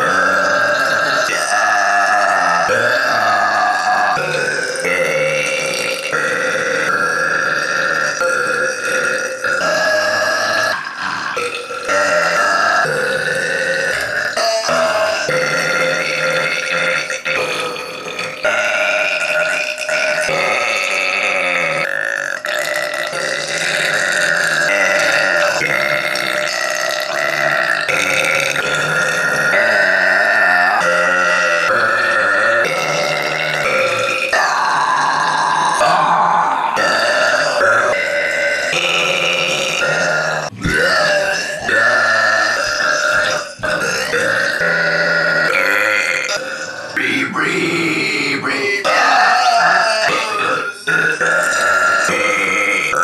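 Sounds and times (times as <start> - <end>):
person belching loudly: 0.0 - 53.0.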